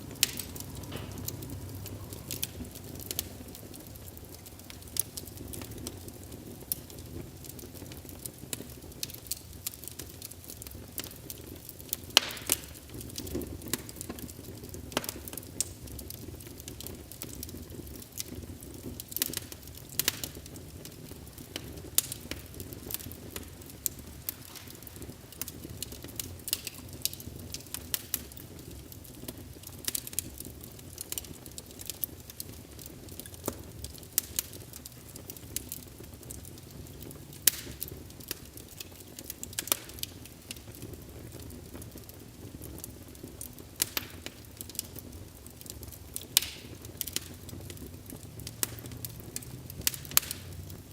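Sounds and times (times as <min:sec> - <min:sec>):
flames rushing in fireplace: 0:00.0 - 0:50.9
logs crackling and popping: 0:00.0 - 0:50.9.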